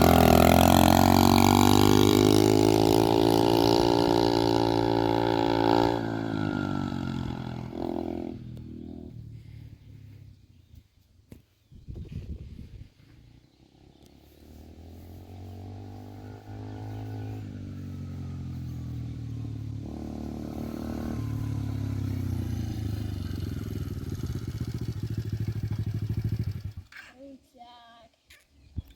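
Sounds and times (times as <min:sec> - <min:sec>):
motocross bike engine: 0:00.0 - 0:10.8, 0:12.5 - 0:27.1.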